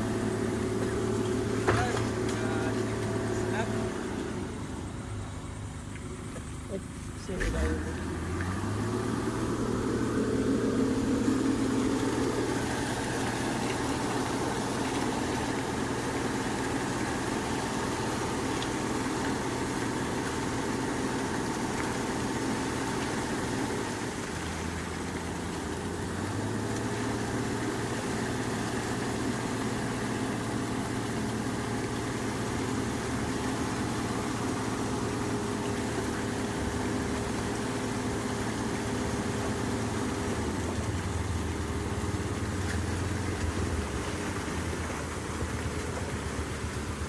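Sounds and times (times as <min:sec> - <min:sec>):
construction machinery engine idling: 0:00.0 - 0:47.0.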